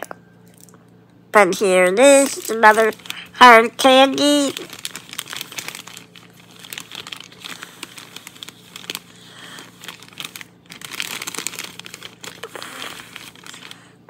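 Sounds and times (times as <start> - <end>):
plastic wrappers crinkling: 1.7 - 14.0.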